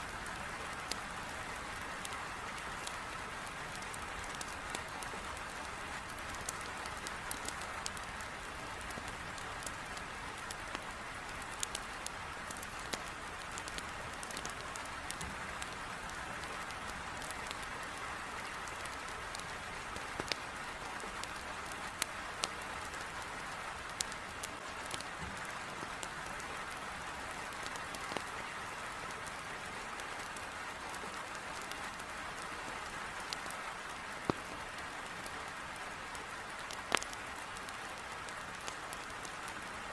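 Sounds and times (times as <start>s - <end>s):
heavy rain against a window: 0.0s - 39.9s
firewood crackling and popping: 0.1s - 39.9s.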